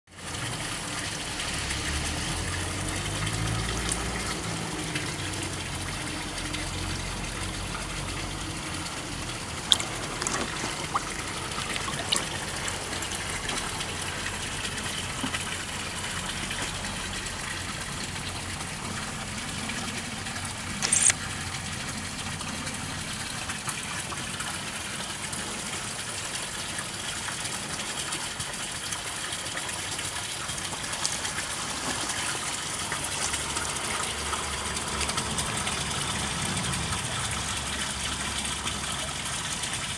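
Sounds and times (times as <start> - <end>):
running water rushing: 0.2 - 39.9.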